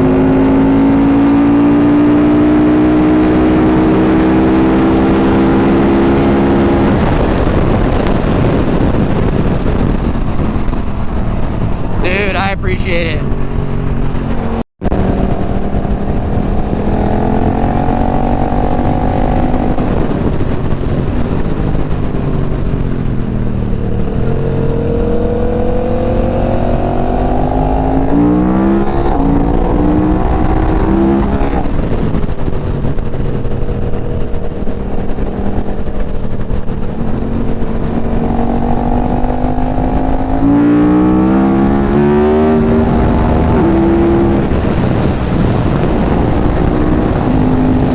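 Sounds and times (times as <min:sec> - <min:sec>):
motorcycle engine accelerating: 0:00.0 - 0:47.9
wind and road noise: 0:00.0 - 0:47.9.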